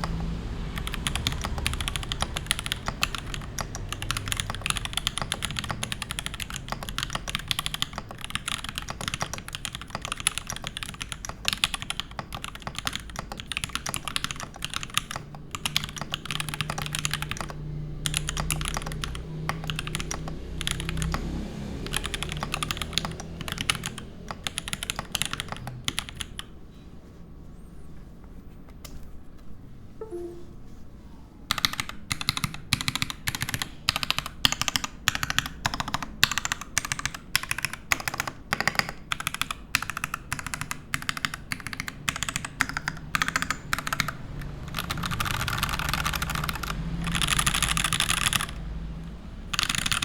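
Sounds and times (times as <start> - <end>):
fast typing on mechanical keyboard: 0.0 - 26.6, 31.5 - 50.0.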